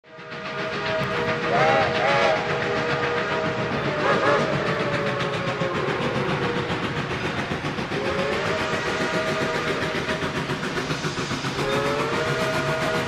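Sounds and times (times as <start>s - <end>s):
train running noise: 0.0s - 13.0s
steam locomotive chime whistle: 0.1s - 13.0s.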